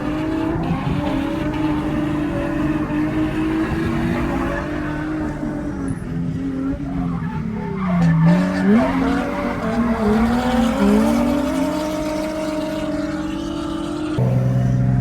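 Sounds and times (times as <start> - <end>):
car engine revving high: 0.0 - 15.0
tyres skidding: 0.0 - 15.0.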